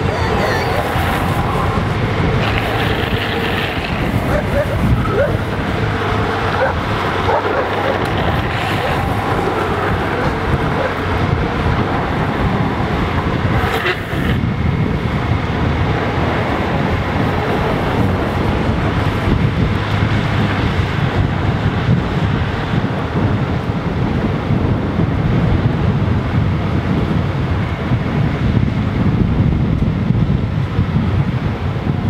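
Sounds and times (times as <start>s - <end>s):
skateboard wheels rolling on asphalt: 0.0s - 32.0s
wind rushing over microphone: 0.0s - 32.0s.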